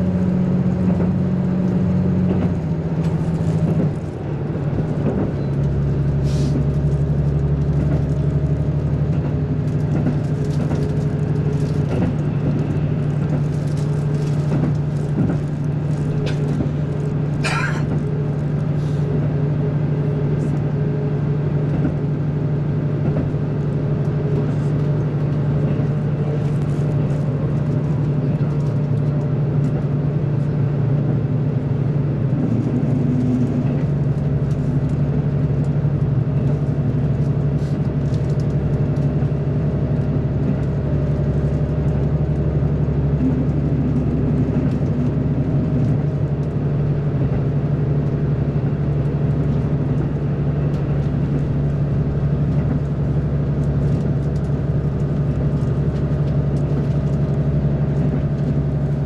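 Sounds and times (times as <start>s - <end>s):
train engine drone: 0.0s - 59.0s.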